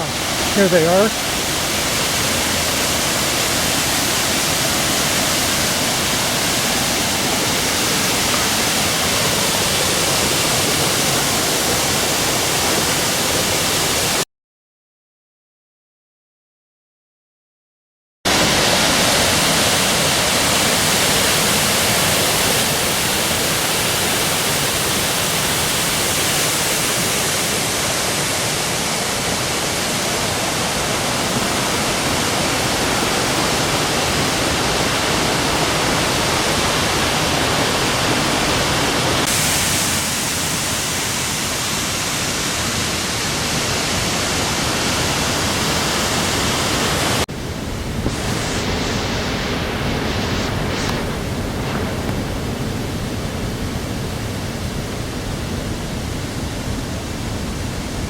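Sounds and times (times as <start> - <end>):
waterfall rushing: 0.0 - 14.2, 18.3 - 58.0.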